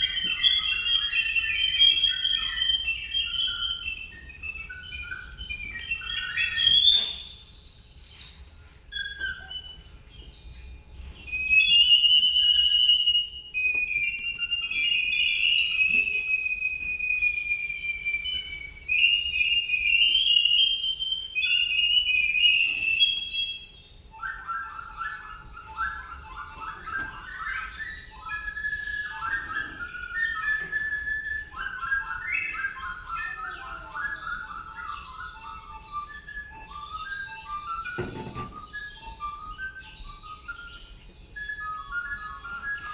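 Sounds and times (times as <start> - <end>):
recorders imitating birdsong: 0.0 - 42.9.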